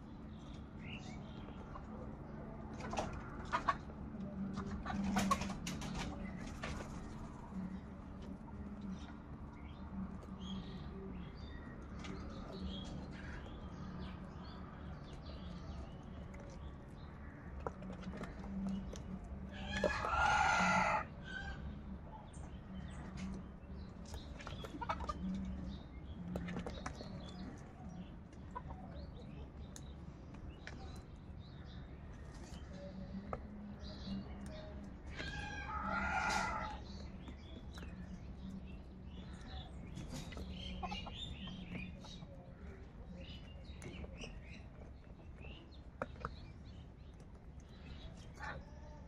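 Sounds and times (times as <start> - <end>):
crows pecking in plastic basin: 0.3 - 21.8, 22.5 - 49.0.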